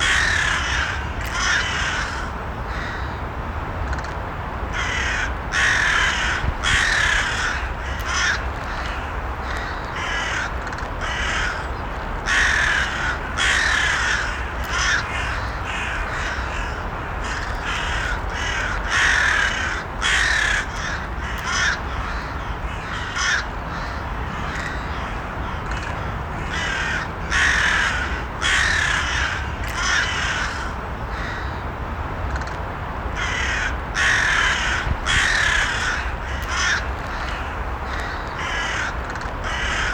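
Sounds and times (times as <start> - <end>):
crows cawing: 0.0 - 3.2, 4.7 - 31.6, 33.2 - 39.9.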